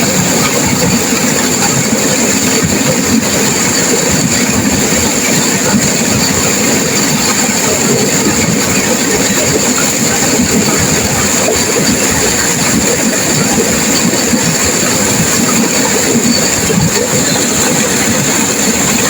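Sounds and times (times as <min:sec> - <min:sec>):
river water rushing over rapids: 0:00.0 - 0:19.0.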